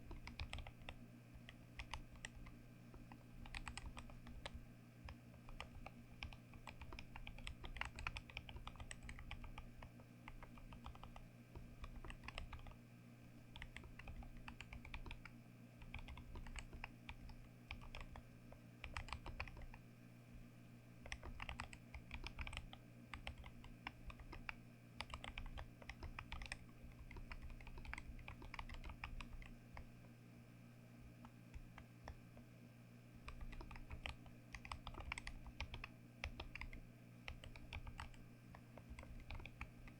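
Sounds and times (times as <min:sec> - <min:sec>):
mechanical keyboard typing: 0:00.0 - 0:12.8, 0:13.5 - 0:18.2, 0:18.8 - 0:19.8, 0:21.0 - 0:29.9, 0:33.2 - 0:39.9.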